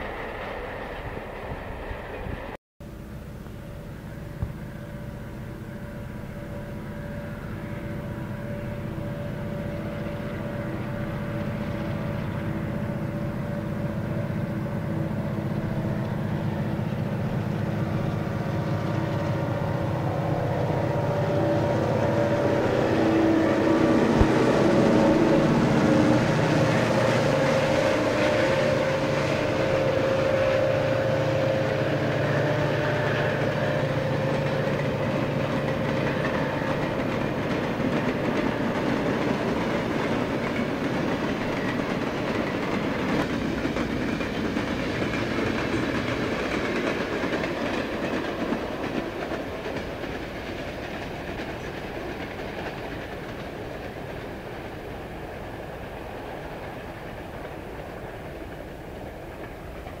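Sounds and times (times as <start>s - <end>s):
diesel locomotive engines droning: 0.0s - 60.0s
freight train rolling on rails: 0.0s - 60.0s.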